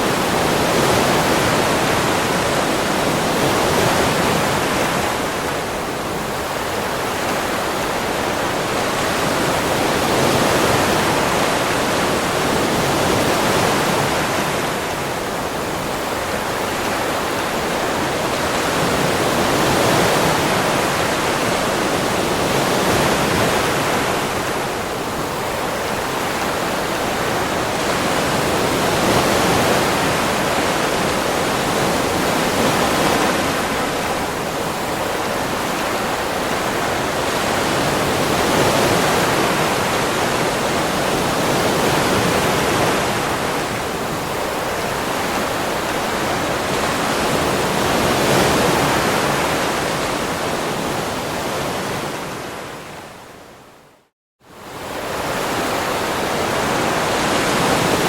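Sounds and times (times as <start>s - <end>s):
ocean surf washing onto beach: 0.0s - 53.8s, 54.5s - 58.0s.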